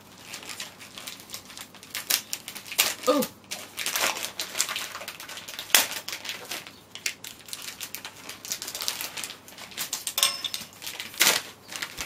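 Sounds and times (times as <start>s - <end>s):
wrapping paper rustling and tearing: 0.0s - 12.0s.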